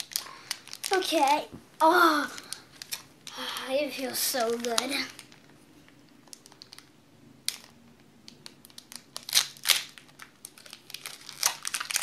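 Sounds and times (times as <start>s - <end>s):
foil wrapper crinkling: 0.0s - 5.6s, 6.2s - 6.9s, 8.4s - 12.0s.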